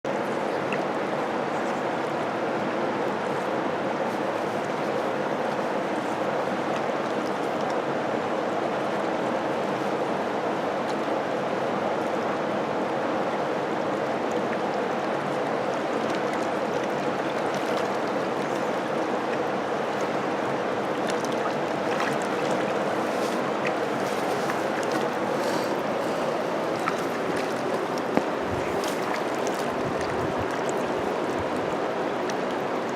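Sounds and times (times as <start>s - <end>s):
river water rushing: 0.1s - 32.9s.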